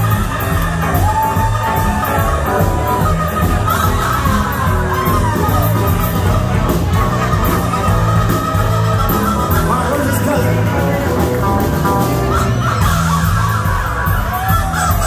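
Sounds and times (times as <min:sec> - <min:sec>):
live rock band playing: 0:00.0 - 0:15.0
saxophone melody: 0:00.0 - 0:15.0.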